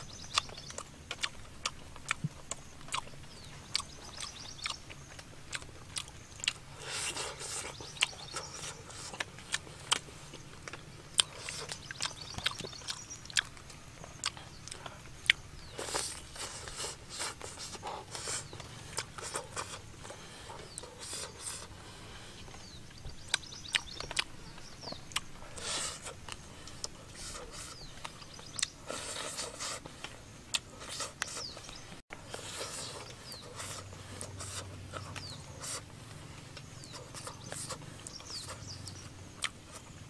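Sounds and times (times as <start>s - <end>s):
wet chewing and lip smacking: 0.0s - 40.0s.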